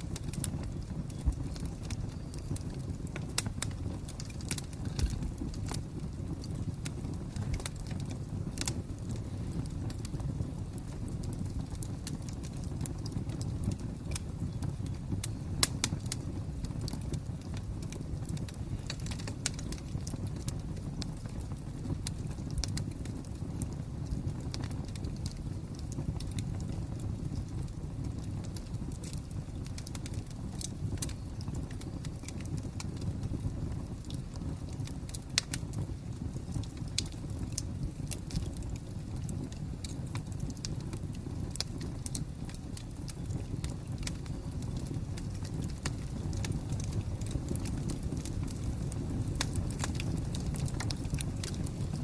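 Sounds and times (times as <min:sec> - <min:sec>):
low rumble of flames: 0:00.0 - 0:52.0
wood fire crackling: 0:00.0 - 0:52.0.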